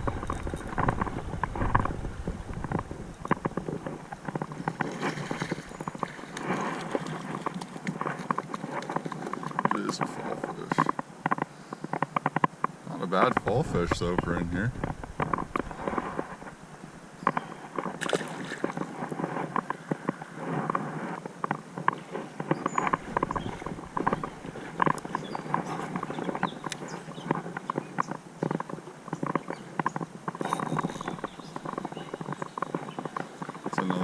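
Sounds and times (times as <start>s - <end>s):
water splashing and sloshing: 0.0s - 11.4s, 13.2s - 34.0s
stones clacking underfoot: 0.0s - 34.0s.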